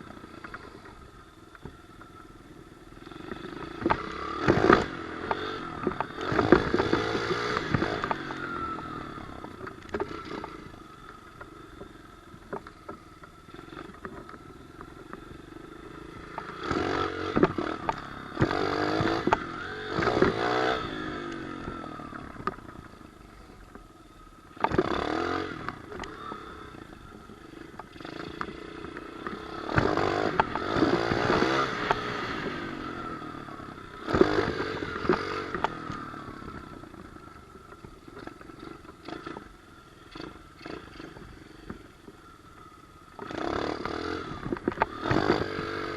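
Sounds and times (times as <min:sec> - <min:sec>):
pit bike engine revving: 0:00.0 - 0:23.5, 0:24.5 - 0:45.9.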